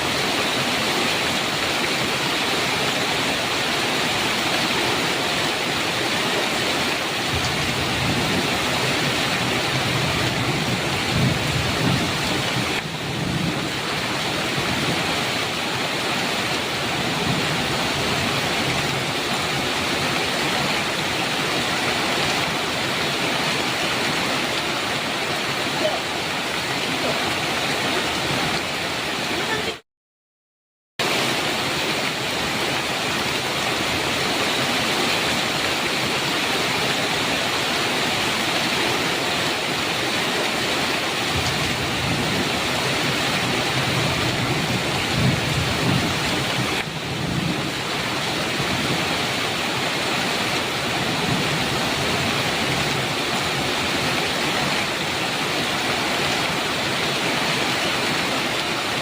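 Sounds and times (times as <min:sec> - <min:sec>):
heavy rain falling: 0:00.0 - 0:29.8, 0:31.0 - 0:59.0.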